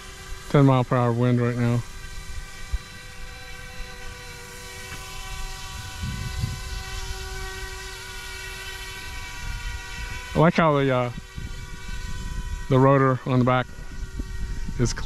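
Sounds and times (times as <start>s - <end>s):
rc helicopter rotor whine: 0.0s - 15.0s
wind on microphone: 1.6s - 15.0s.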